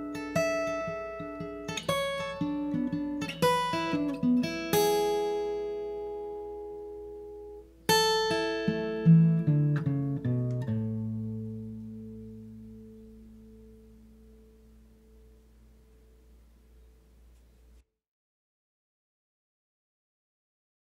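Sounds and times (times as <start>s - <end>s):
acoustic guitar playing: 0.0s - 16.8s.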